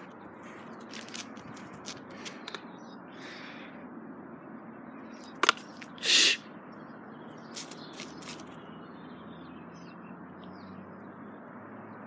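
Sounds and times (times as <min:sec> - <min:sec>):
outdoor background: 0:00.0 - 0:12.0.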